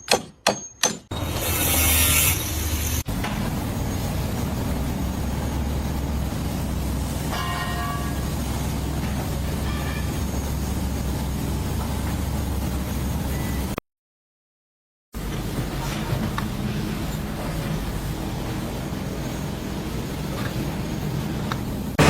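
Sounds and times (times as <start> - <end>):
heavy engine rumbling: 1.1 - 13.8, 15.2 - 22.0.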